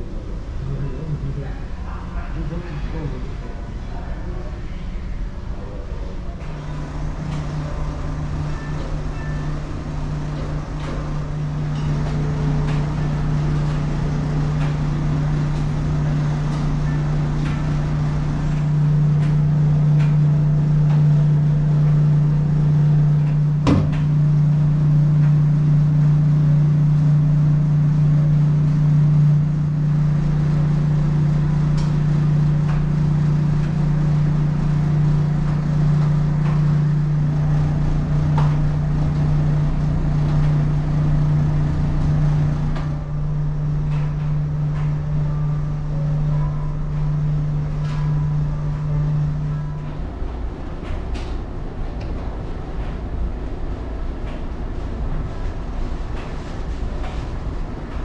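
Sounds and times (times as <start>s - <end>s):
ship machinery hum: 0.0s - 58.0s.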